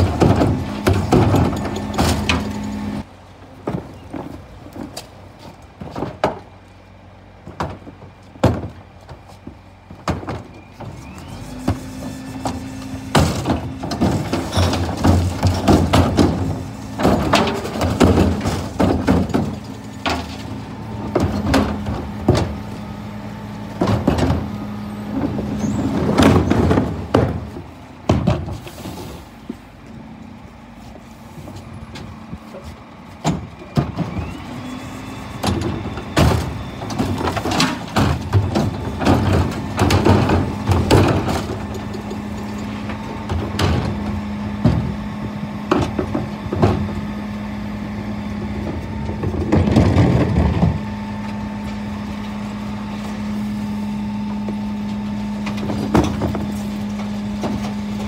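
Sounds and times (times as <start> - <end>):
wheelie bins knocking and banging: 0.0 - 6.6, 7.4 - 29.7, 33.2 - 58.0
diesel engine running: 0.0 - 58.0.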